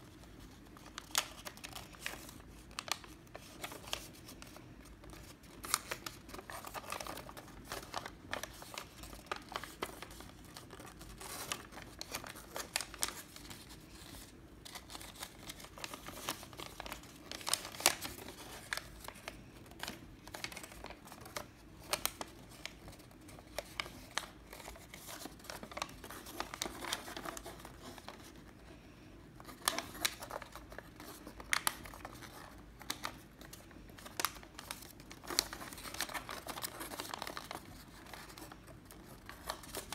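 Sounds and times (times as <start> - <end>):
paper fold crackles: 0.0 - 39.9
paper rustling and crinkling: 0.0 - 39.9.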